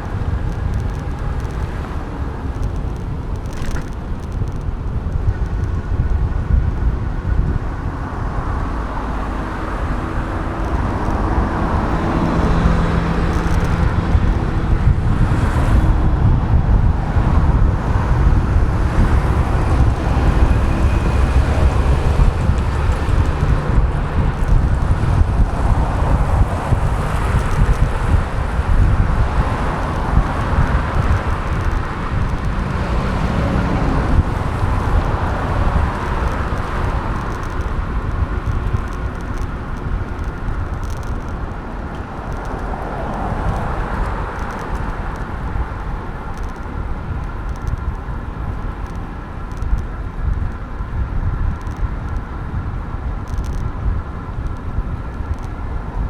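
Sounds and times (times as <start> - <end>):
road traffic: 0.0 - 56.0
vehicles passing: 0.0 - 56.0
wind noise on microphone: 0.0 - 56.0.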